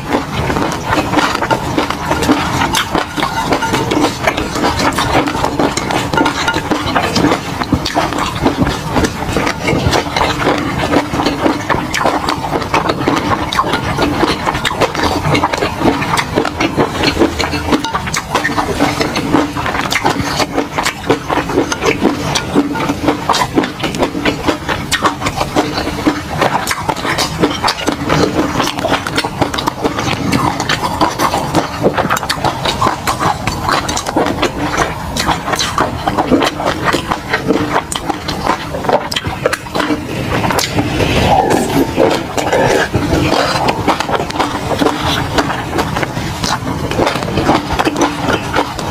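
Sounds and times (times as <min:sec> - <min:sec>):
wet chewing and mouth smacks: 0:00.0 - 0:48.9.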